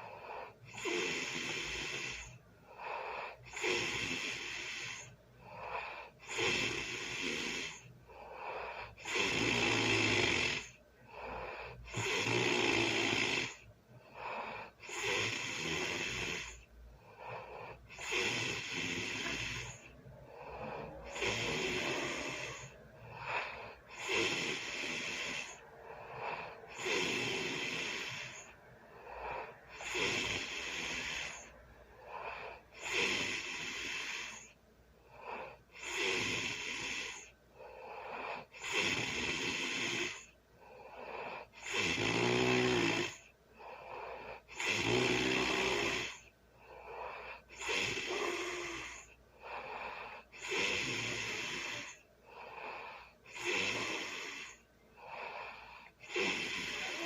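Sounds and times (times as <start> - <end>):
person snoring: 0.0 - 57.0
quiet breaths: 0.0 - 57.0.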